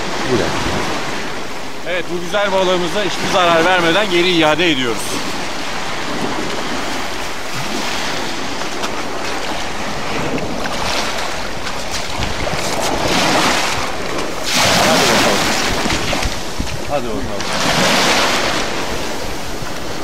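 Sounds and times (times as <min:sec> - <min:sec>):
small waves breaking on stones: 0:02.9 - 0:19.9.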